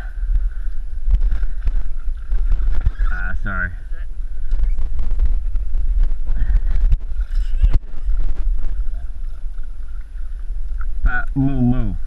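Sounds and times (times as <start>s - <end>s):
water splashing and sloshing: 0.0s - 12.0s
wind rumbling on microphone: 0.0s - 12.0s.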